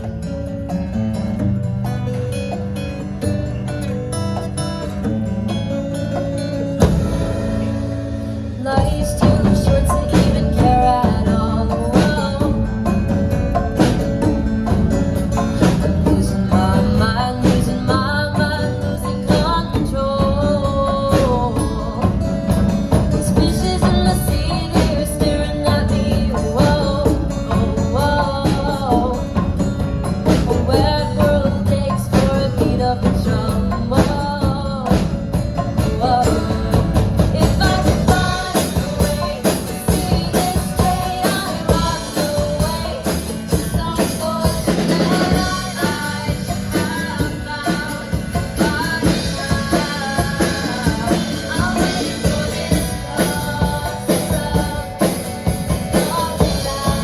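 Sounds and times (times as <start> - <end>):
drums: 0.0 - 57.0
guitar: 0.0 - 57.0
woman singing: 8.5 - 57.0.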